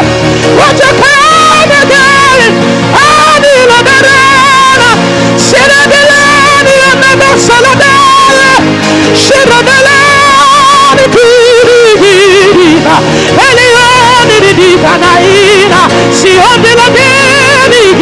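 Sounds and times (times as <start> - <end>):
held backing chords: 0.0 - 18.0.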